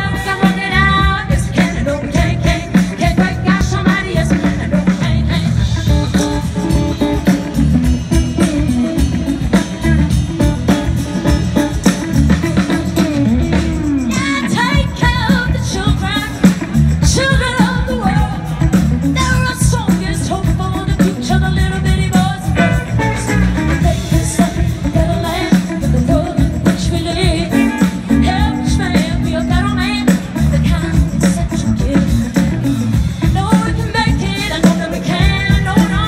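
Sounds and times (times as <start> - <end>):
woman singing with vibrato: 0.0 - 7.3, 14.0 - 36.0
live blues band playing: 0.0 - 36.0.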